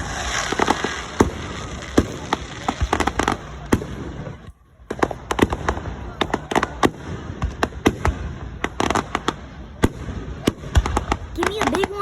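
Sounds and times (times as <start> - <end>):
fireworks crackling hiss: 0.0 - 12.0
fireworks cracks and bangs: 0.0 - 12.0.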